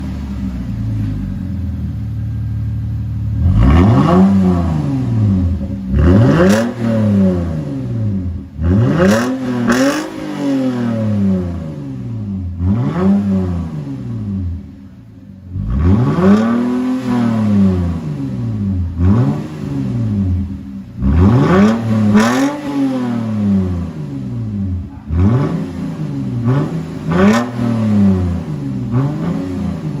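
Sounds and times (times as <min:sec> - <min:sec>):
car engine revving unmuffled: 0:00.0 - 0:30.0.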